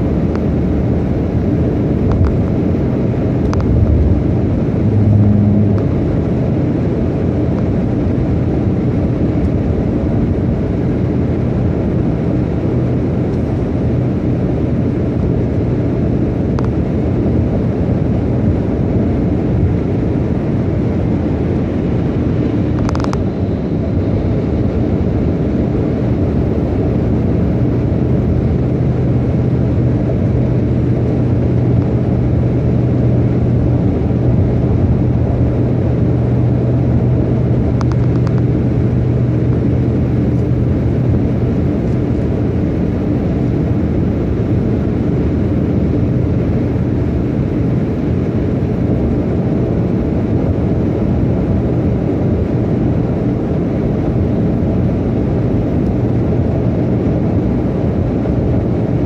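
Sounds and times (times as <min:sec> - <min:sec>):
car road noise rumble: 0:00.0 - 0:59.0
low even hum: 0:00.0 - 0:59.0.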